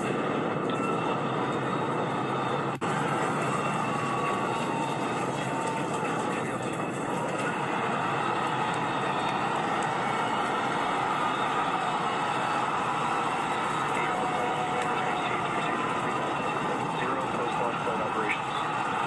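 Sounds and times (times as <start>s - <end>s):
rocket engines roaring: 0.0s - 19.0s.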